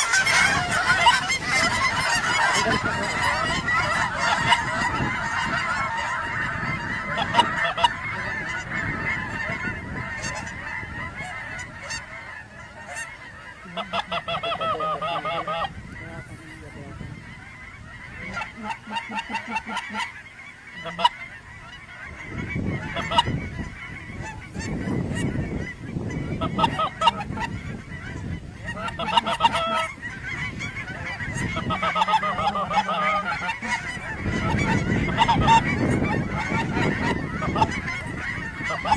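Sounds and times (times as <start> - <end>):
geese honking: 0.0 - 38.9.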